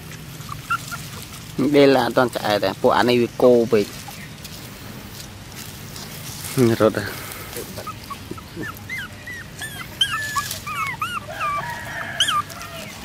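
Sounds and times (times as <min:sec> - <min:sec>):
puppies whimpering and squeaking: 0:00.0 - 0:13.0.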